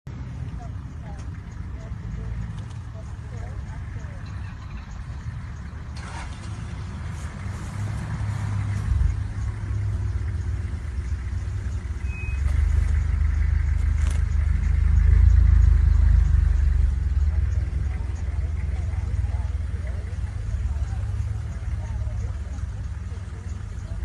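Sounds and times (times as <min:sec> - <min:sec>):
vehicle engine rumbling: 0:00.1 - 0:24.0.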